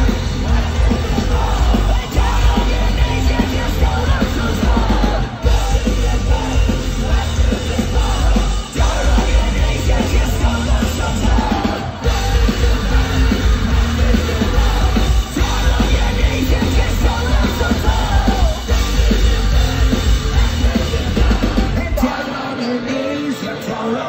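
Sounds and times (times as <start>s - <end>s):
distorted guitars: 0.0s - 24.0s
drums: 0.0s - 24.0s
person singing: 0.0s - 24.0s
punk rock band playing live: 0.0s - 24.0s.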